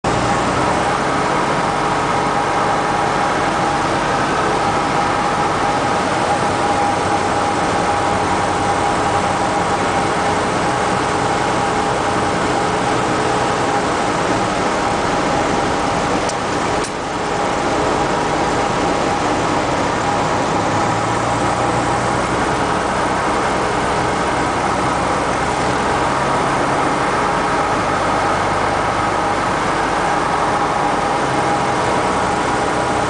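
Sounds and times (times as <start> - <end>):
small plane engine and propeller drone: 0.0 - 33.0
wind noise over airframe: 0.1 - 33.0.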